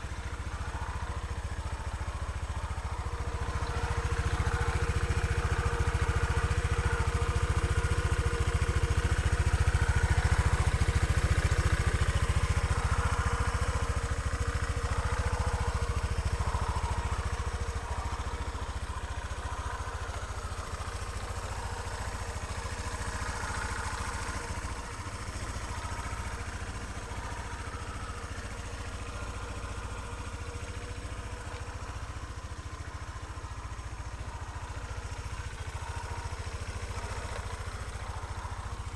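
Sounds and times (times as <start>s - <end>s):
scooter engine running: 0.0s - 38.9s.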